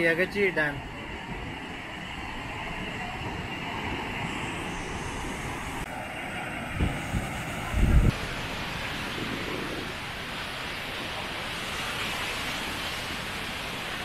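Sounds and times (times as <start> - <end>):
steady rushing noise: 0.0 - 14.0
wind buffeting microphone: 0.0 - 14.0.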